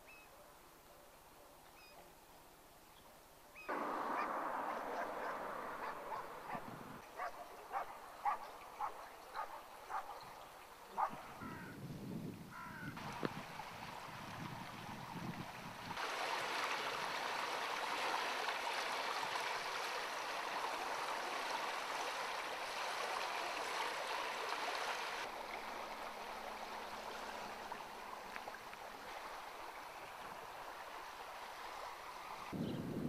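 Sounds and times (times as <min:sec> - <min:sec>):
steady outdoor hiss: 0:00.0 - 0:33.0
shallow water rushing: 0:03.7 - 0:11.4, 0:13.0 - 0:32.6.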